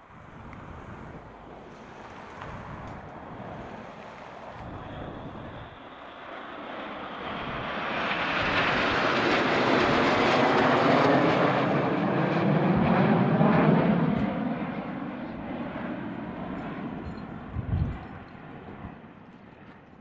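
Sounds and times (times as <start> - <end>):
jets passing overhead: 0.0 - 19.8.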